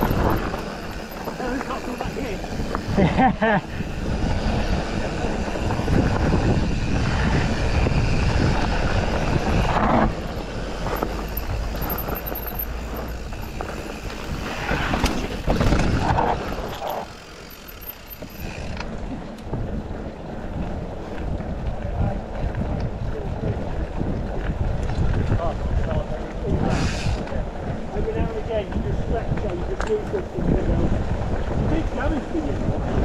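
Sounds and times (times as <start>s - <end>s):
wind buffeting microphone: 0.0s - 17.2s, 18.2s - 33.0s
tyre roar on dirt: 0.0s - 26.7s
bike rattling: 0.0s - 33.0s.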